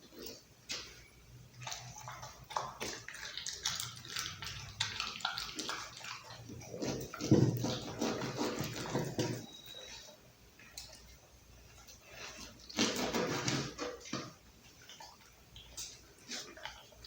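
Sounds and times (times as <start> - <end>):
dog chewing raw meat: 0.0 - 17.0.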